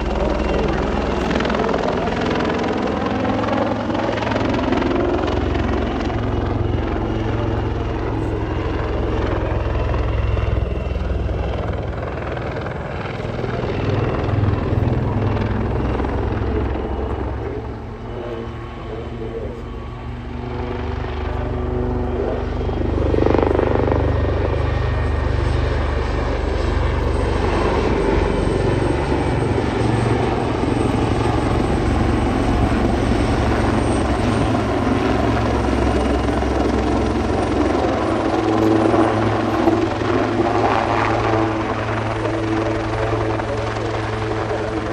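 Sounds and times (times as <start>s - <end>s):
helicopter rotor and turbine noise: 0.0s - 44.9s.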